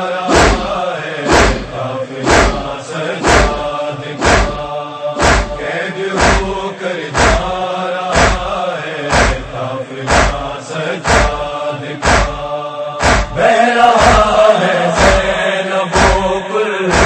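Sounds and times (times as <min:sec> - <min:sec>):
men chanting: 0:00.0 - 0:17.0
crowd slapping chests: 0:00.3 - 0:17.0.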